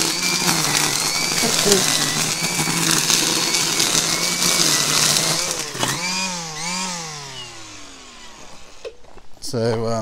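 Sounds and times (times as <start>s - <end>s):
line trimmer whipping through weeds: 0.0s - 9.3s.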